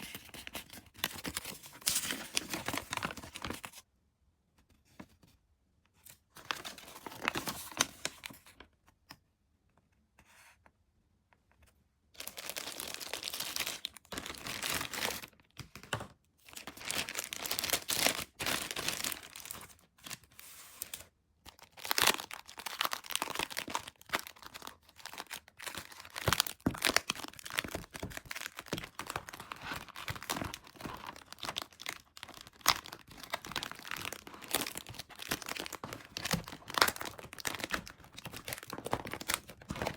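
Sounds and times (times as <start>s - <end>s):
packaging crinkling and tearing: 0.0s - 3.7s, 6.4s - 8.4s, 12.2s - 39.9s.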